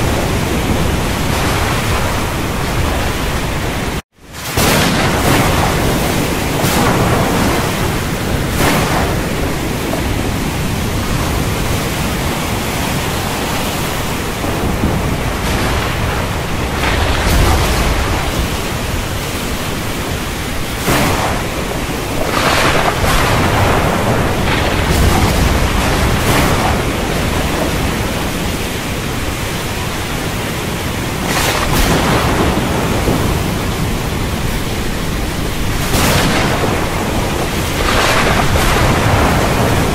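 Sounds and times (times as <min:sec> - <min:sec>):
steady rushing rain noise: 0:00.0 - 0:39.9
thunder cracks and rumbles: 0:00.0 - 0:39.9.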